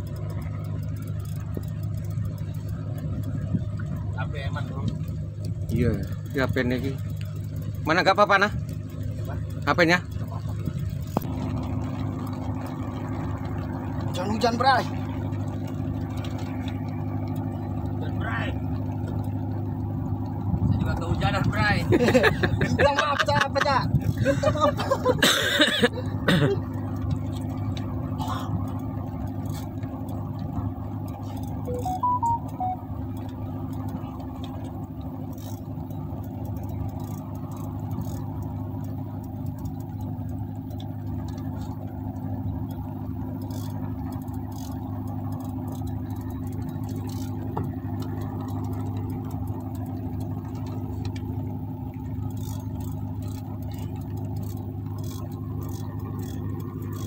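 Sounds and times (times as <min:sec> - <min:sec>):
boat motor humming: 0:00.0 - 0:57.0.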